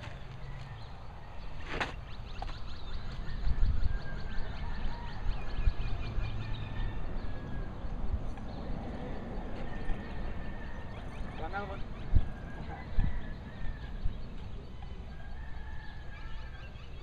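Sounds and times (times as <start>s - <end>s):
small birds chirping: 0.0s - 17.0s
wind rumble on microphone: 0.0s - 17.0s.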